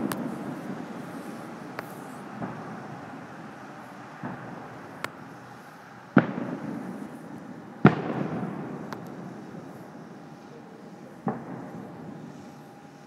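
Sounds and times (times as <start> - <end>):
fireworks pops and cracks: 0.0 - 5.3, 6.1 - 12.6
fireworks booms: 0.0 - 5.4, 6.1 - 12.8.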